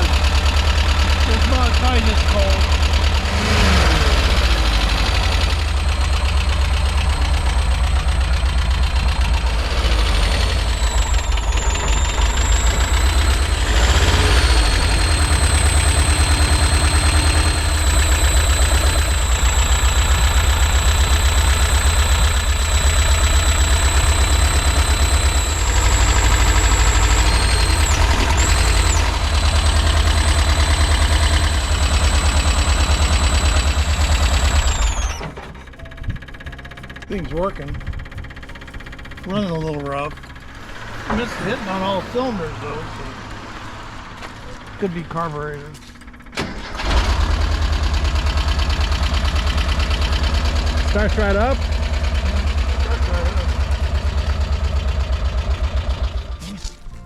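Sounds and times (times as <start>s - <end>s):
engine idling rough: 0.0s - 57.0s.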